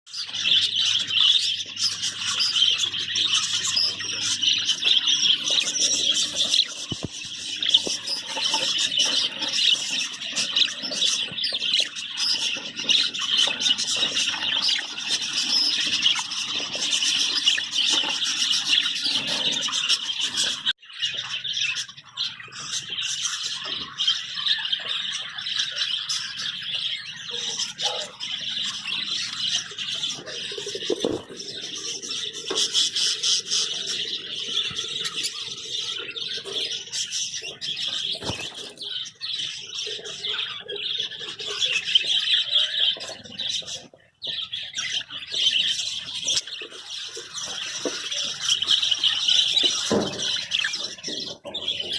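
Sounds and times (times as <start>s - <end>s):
budgerigars chattering and chirping: 0.1s - 51.9s.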